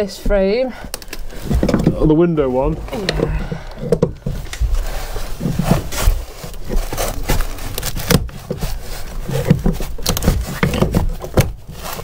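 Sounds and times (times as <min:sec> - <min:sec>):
hand tool scraping rotten wood: 0:01.0 - 0:12.0.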